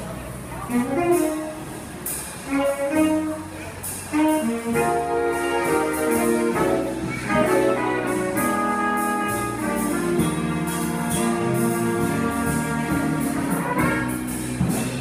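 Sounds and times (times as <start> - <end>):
big band jazz: 0.0 - 15.0.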